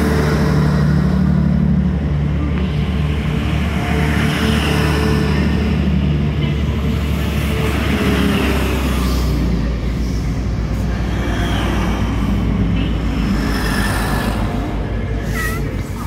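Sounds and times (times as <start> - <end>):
train engine drone: 0.0 - 16.0
wheels rumbling on rails: 0.0 - 16.0.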